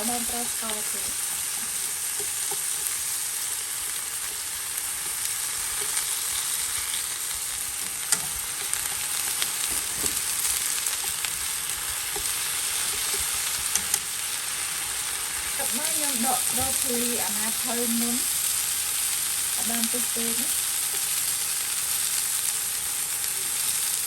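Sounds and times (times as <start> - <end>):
food sizzling in oil: 0.0 - 24.0.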